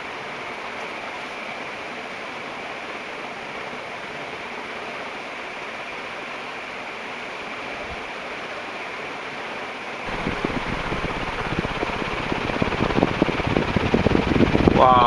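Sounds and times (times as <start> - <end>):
ceiling fan air rush: 0.0 - 15.0.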